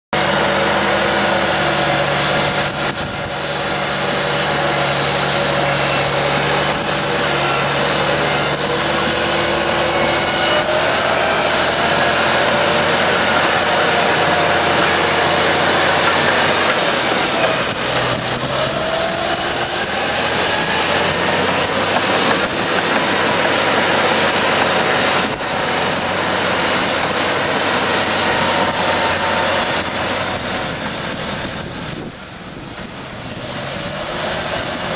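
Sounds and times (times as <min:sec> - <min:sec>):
bulldozer diesel engine: 0:00.1 - 0:34.9
high whine: 0:00.1 - 0:34.9.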